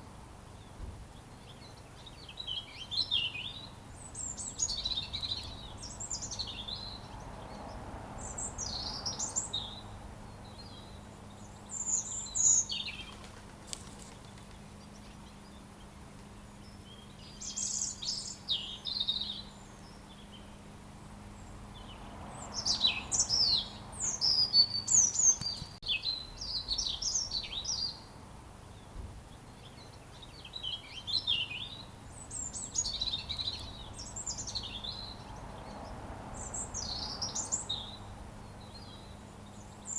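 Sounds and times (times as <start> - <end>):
robin singing: 0.6 - 13.2, 13.9 - 39.9.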